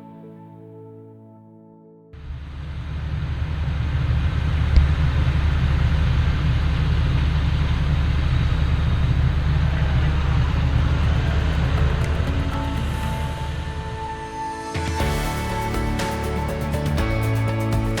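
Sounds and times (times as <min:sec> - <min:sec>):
machinery low drone: 0:02.2 - 0:18.0.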